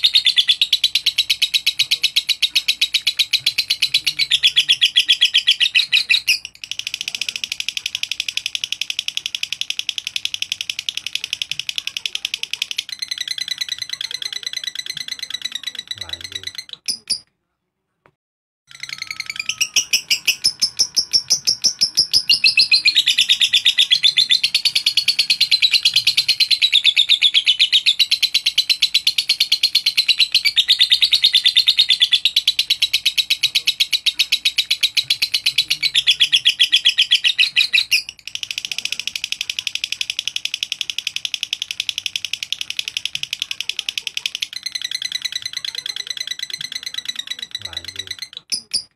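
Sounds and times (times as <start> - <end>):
lovebird high chatter song: 0.0 - 17.3, 18.7 - 48.9.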